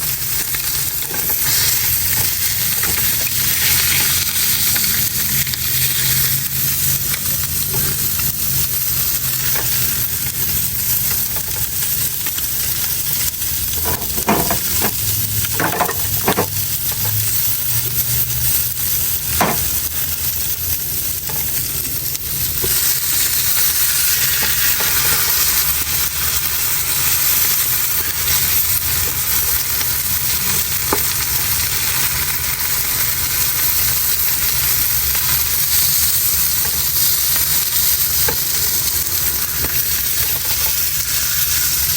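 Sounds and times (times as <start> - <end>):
fish sizzling in frying: 0.0 - 41.9.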